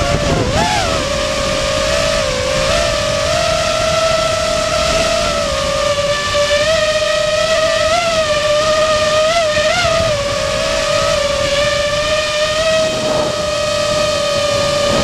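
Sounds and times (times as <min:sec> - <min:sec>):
quadcopter motors whining: 0:00.0 - 0:15.0
wind on microphone: 0:00.0 - 0:15.0.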